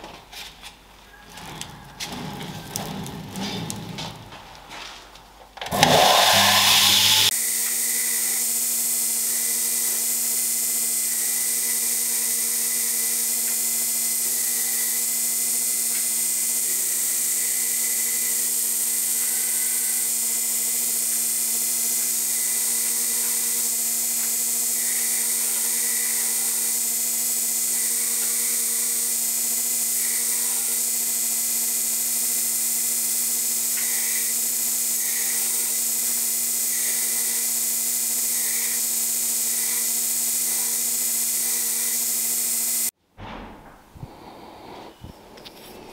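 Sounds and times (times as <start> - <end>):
belt grinder grinding metal: 5.7 - 42.9.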